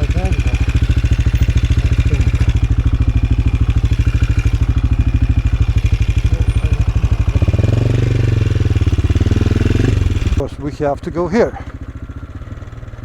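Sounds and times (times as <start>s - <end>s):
motorcycle engine running and revving: 0.0s - 13.0s.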